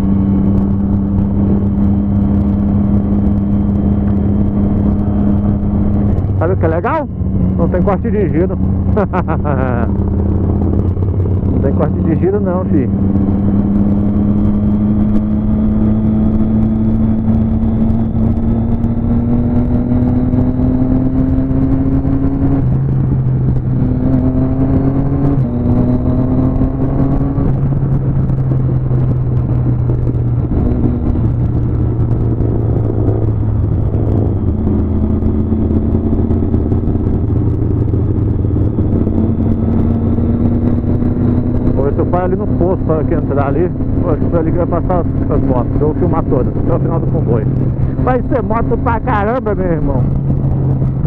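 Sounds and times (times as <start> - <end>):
motorcycle engine cruising: 0.0 - 51.0
wind and road rush: 0.0 - 51.0.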